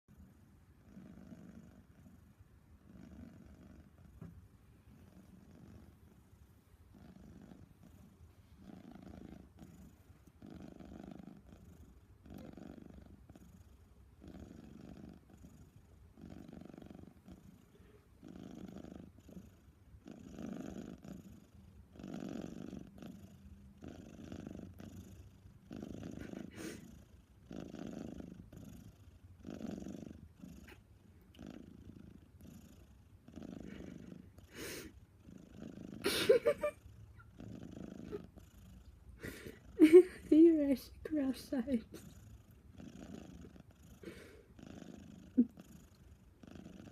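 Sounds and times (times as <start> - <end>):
pet snoring softly: 0.1 - 36.1, 36.7 - 46.9.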